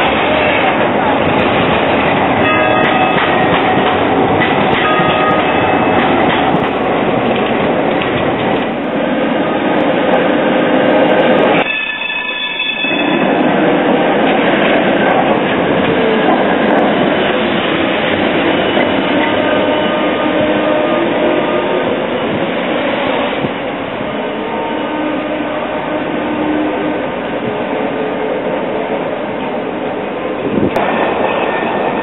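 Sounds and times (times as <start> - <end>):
trams rumbling on rails: 0.0 - 32.0.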